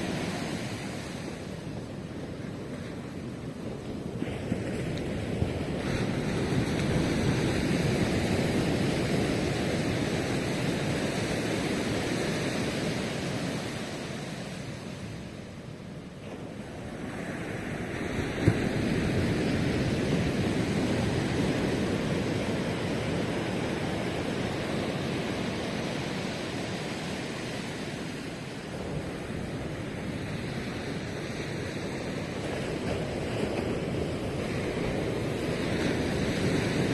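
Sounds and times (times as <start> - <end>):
ocean waves breaking: 0.0 - 36.9.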